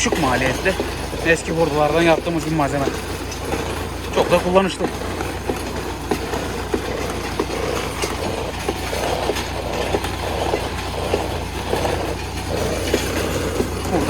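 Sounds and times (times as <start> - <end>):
engine drone: 0.0 - 14.0
machine clacking rhythmically: 0.0 - 14.0.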